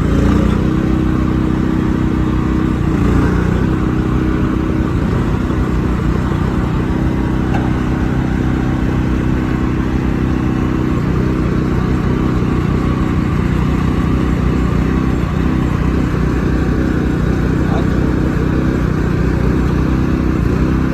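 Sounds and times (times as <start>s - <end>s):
engine running: 0.0s - 20.9s.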